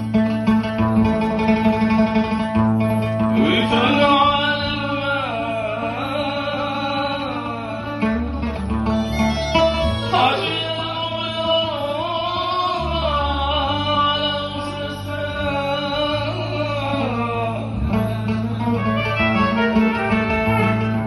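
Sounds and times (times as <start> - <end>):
oud playing: 0.0 - 21.0
person singing long wavering line: 3.4 - 21.0.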